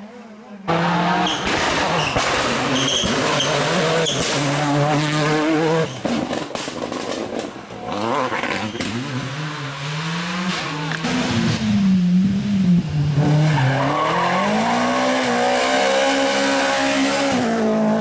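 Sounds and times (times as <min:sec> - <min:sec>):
car accelerating: 0:00.7 - 0:06.5, 0:07.7 - 0:18.0
rally car engine high revs: 0:00.7 - 0:06.6, 0:07.8 - 0:18.0.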